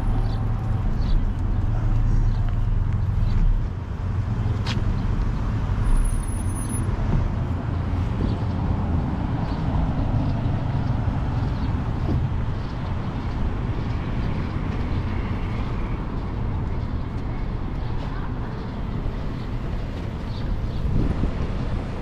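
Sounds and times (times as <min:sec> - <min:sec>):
city traffic rumble: 0:00.0 - 0:22.0
motor vehicle engine hum: 0:00.0 - 0:22.0.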